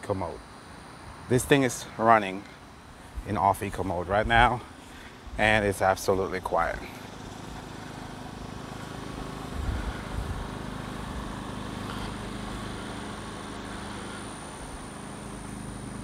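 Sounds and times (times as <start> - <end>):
generator engine humming: 0.0 - 16.0.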